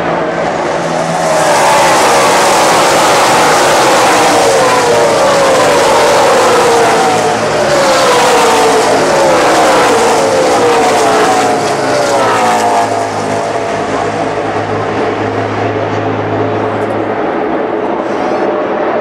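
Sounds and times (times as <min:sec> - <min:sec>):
race truck engines passing: 0:00.0 - 0:19.0.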